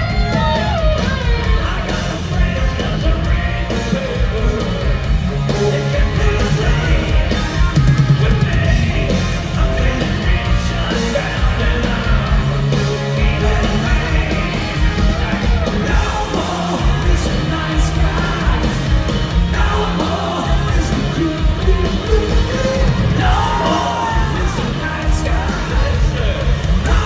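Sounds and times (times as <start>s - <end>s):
electric guitars: 0.0s - 27.0s
pounding drum kit: 0.0s - 27.0s
singer singing and shouting: 0.0s - 27.0s.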